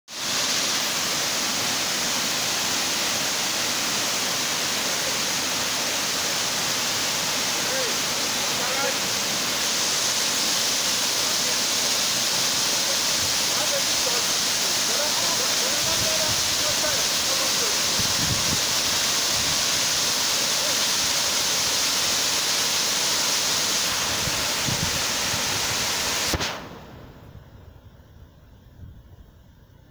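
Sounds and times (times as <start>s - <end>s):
waterfall rushing: 0.1s - 26.4s.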